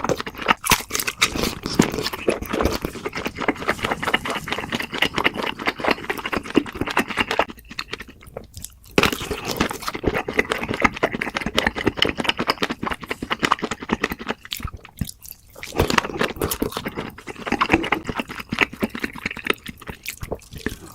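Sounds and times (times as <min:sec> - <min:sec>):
person chewing crunchy food: 0:00.0 - 0:20.9.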